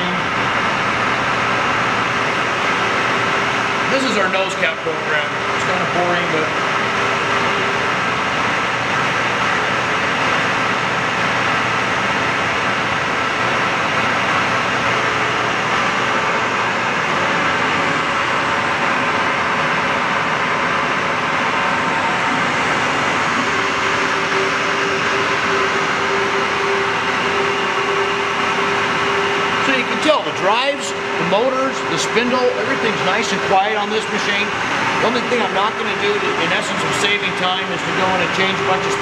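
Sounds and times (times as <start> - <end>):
lathe mechanical whir: 0.0 - 39.0.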